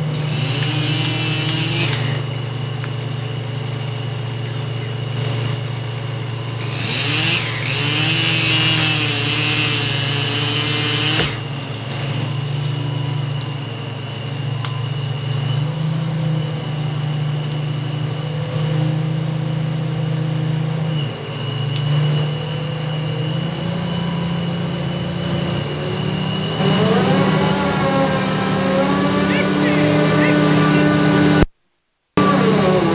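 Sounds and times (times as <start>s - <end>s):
engine revving: 0.0s - 31.5s, 32.2s - 32.9s
heavy engines running: 0.0s - 31.5s, 32.2s - 32.9s.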